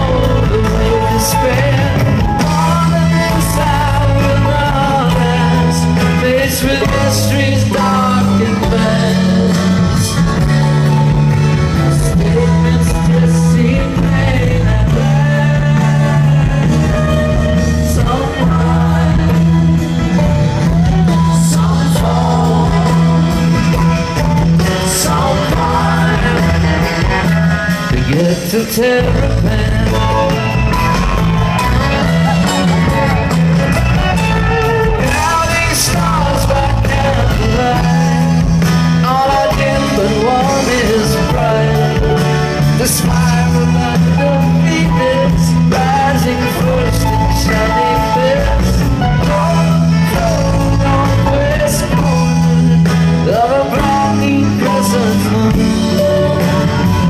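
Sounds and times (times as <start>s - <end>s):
live string band with vocals: 0.0s - 57.0s.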